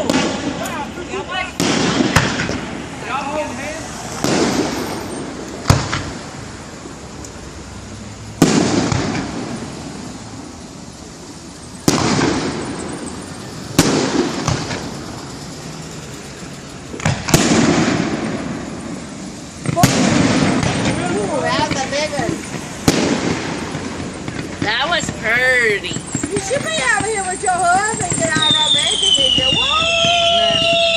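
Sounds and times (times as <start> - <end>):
fireworks bangs: 0.0 - 30.9
fireworks rumble: 0.0 - 30.9.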